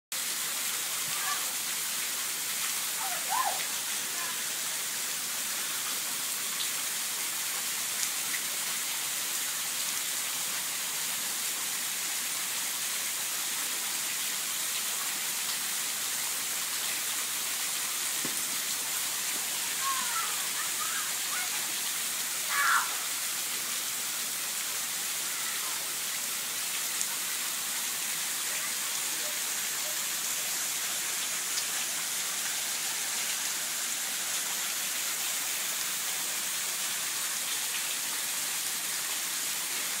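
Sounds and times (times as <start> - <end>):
steady rain falling: 0.1 - 40.0.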